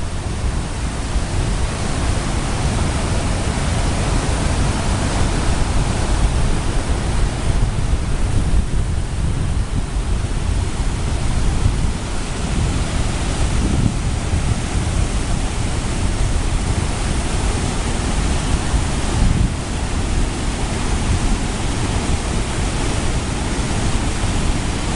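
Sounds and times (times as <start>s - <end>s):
roar of rushing whitewater: 0.0s - 24.9s.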